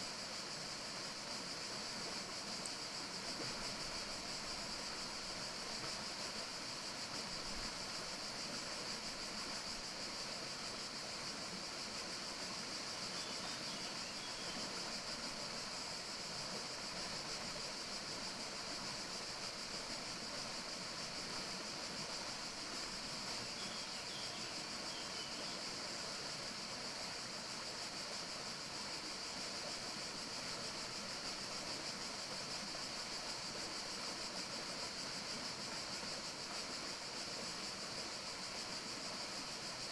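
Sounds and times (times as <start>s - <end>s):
outdoor nature ambience hiss: 0.0s - 39.9s.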